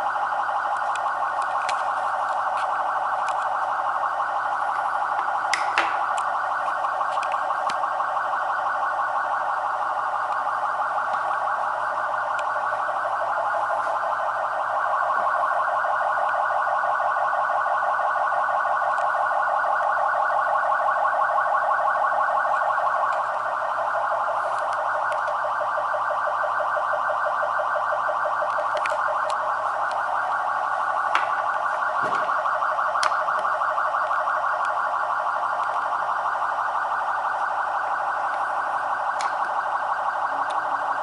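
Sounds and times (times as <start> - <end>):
police siren warbling: 0.0 - 41.0.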